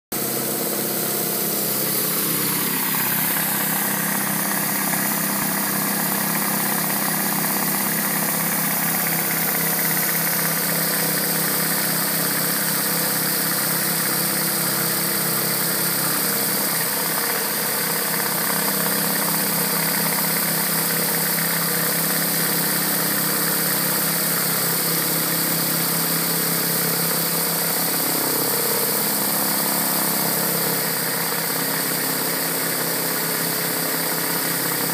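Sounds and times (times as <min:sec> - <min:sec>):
pressure washer engine running: 0:00.1 - 0:34.9
high-pressure water spraying: 0:00.2 - 0:34.9.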